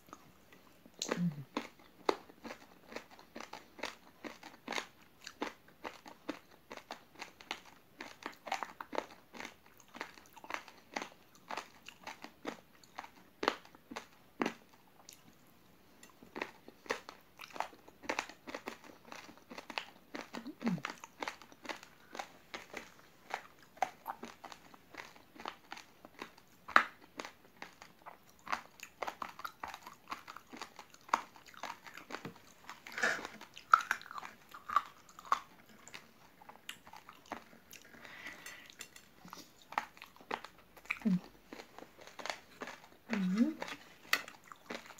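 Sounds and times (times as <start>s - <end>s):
crunchy chewing: 0.1s - 15.4s, 16.0s - 44.9s.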